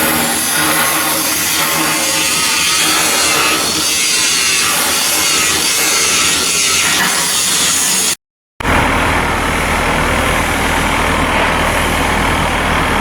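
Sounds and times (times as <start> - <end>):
power tool running on steel: 0.0 - 13.0.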